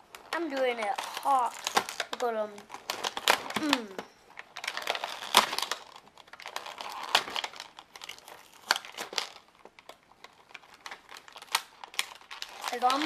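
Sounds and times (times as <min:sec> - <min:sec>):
packaging crinkling and crackling: 0:00.0 - 0:13.0
packaging snaps: 0:00.0 - 0:13.0.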